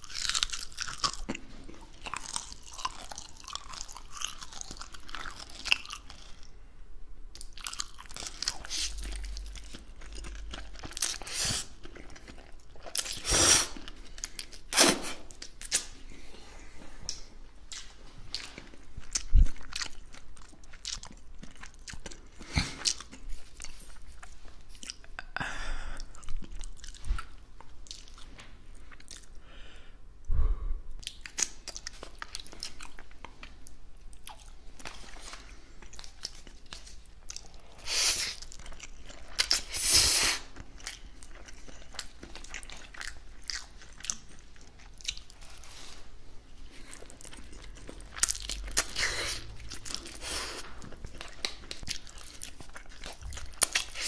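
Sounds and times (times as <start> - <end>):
chewing spaghetti: 0.0 - 6.6, 7.4 - 25.4, 26.0 - 29.4, 31.0 - 54.0.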